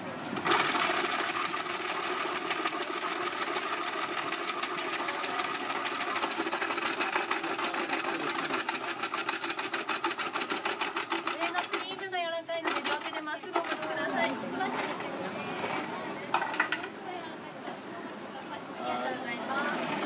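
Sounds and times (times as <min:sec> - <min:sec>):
ice cream machine whirring: 0:00.0 - 0:17.2.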